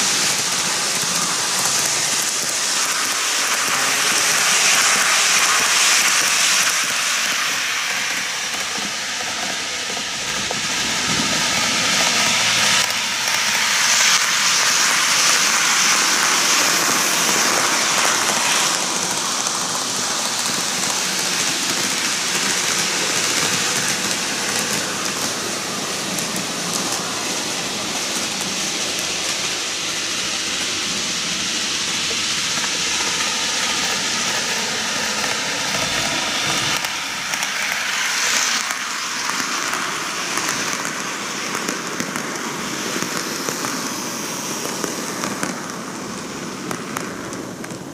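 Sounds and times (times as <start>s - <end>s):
model train wheels rumbling on rail: 0.0s - 47.9s.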